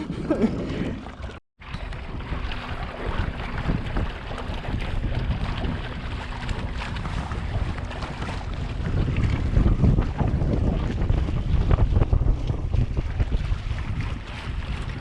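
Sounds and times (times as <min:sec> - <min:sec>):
water splashing along a hull: 0:00.0 - 0:15.0
wind buffeting microphone: 0:00.0 - 0:15.0.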